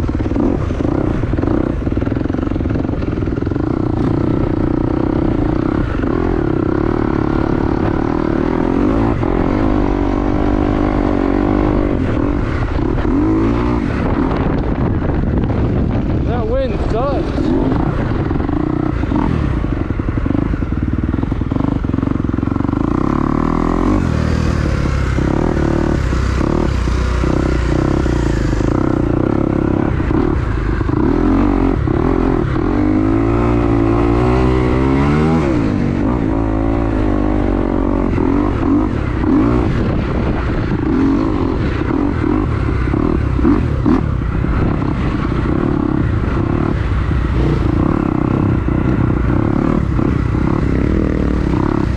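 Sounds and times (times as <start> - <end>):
dirt bike engine revving: 0.0 - 51.9
wind buffeting microphone: 0.0 - 51.9.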